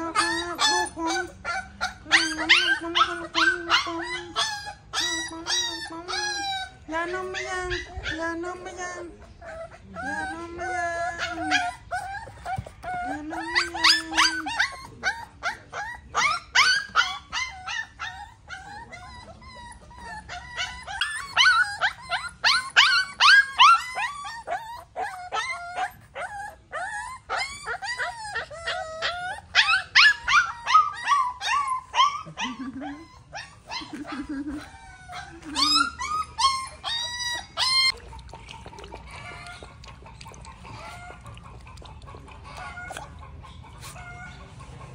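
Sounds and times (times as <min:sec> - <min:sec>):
puppies whimpering and yelping: 0:00.0 - 0:44.9.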